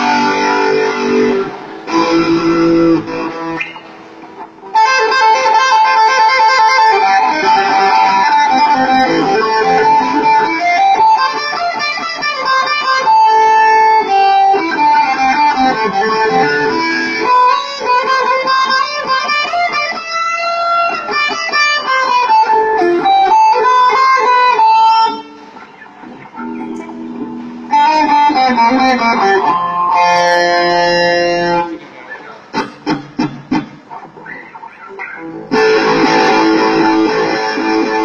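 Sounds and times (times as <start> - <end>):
guitar with bending notes: 0.0 - 38.0.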